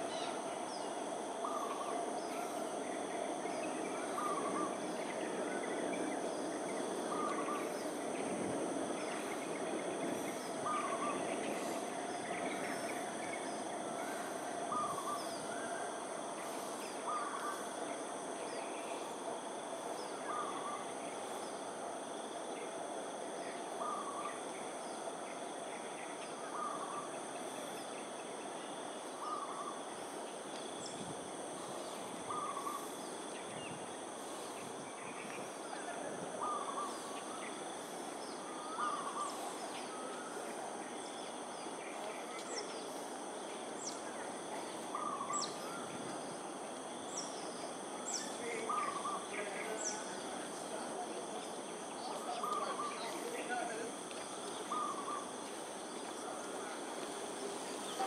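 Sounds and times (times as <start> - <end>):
background hum: 0.0 - 58.0
high insect drone: 0.0 - 58.0.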